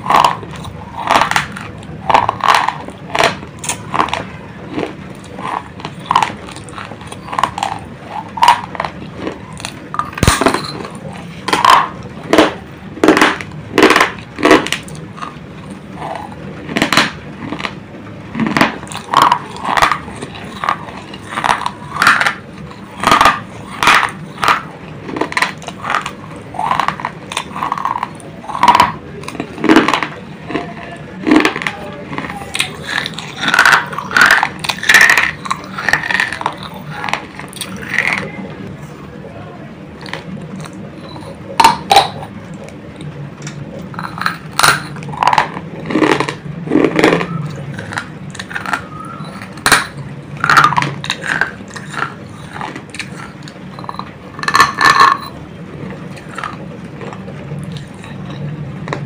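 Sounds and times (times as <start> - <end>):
chewing crunches: 0.0 - 39.0, 39.8 - 59.0.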